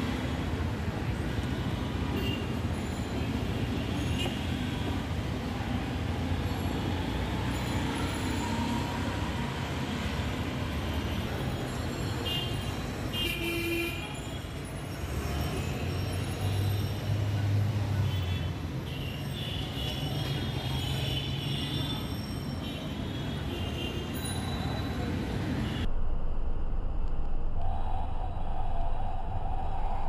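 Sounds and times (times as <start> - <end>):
traffic engines humming: 0.0 - 30.0.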